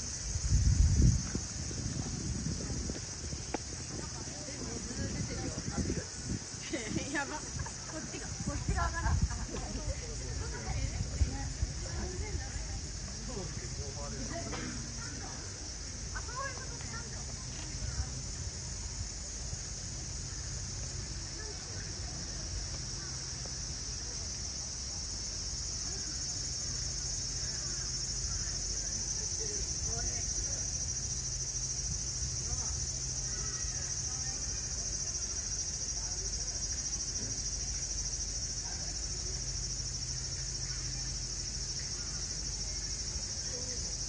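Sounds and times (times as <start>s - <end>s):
cicadas buzzing: 0.0s - 44.0s
faint distant voices: 0.2s - 44.0s.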